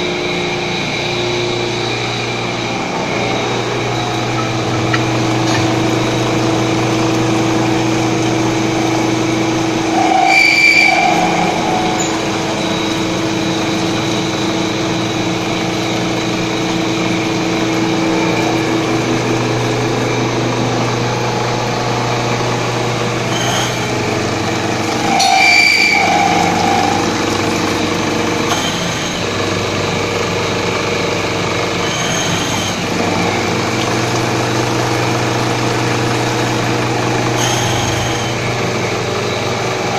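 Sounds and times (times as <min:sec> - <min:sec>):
coolant spraying: 0:00.0 - 0:39.9
milling machine hum: 0:00.0 - 0:39.9.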